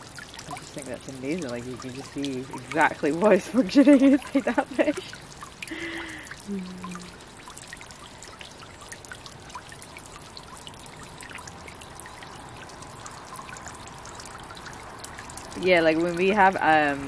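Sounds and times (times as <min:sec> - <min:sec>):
water drips and plinks: 0:00.0 - 0:17.0
water trickling into pond: 0:00.0 - 0:17.0.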